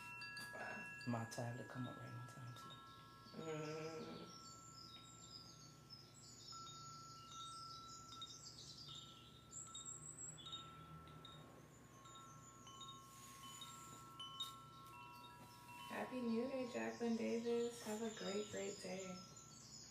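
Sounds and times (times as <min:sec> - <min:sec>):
wind chimes ringing: 0:00.0 - 0:19.9.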